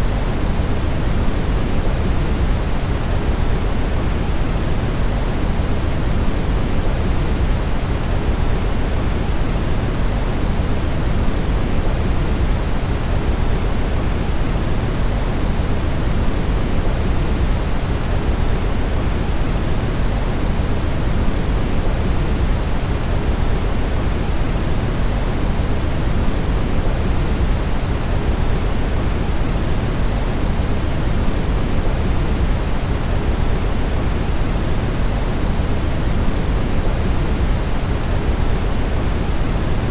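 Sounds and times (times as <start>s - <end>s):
brown noise rumbling hiss: 0.0s - 39.9s.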